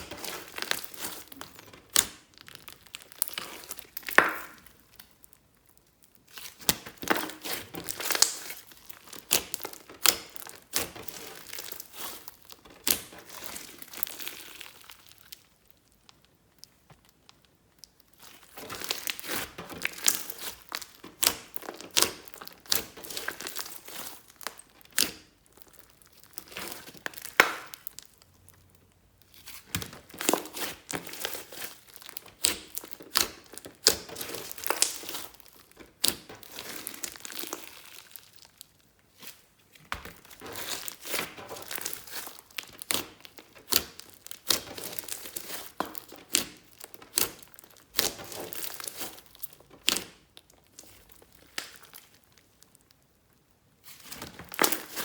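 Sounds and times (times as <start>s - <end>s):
hands squishing slime: 0.0s - 52.6s, 53.8s - 55.0s.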